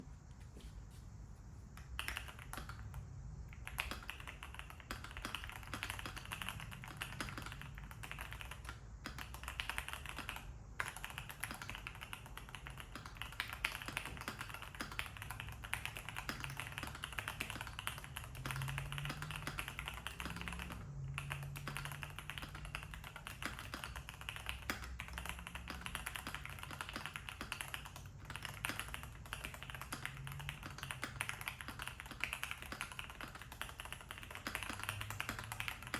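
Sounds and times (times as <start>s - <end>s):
fast typing on mechanical keyboard: 1.8s - 35.9s.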